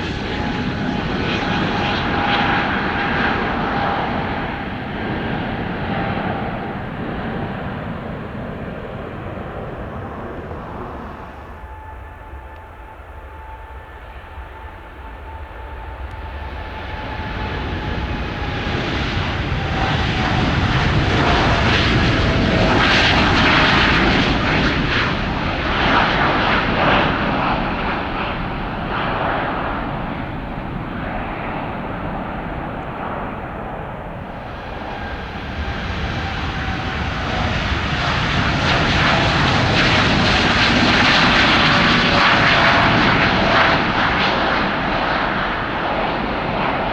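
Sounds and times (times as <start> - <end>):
jet engines taking off: 0.0 - 46.9.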